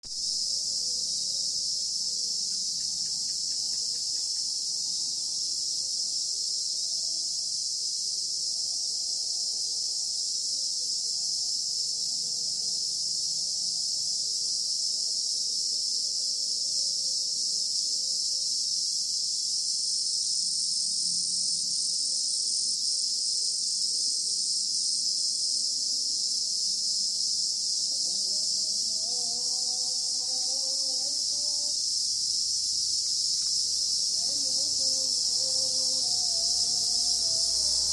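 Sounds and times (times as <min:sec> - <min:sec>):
higher insect drone: 0:00.0 - 0:37.9
insects droning: 0:00.0 - 0:37.9.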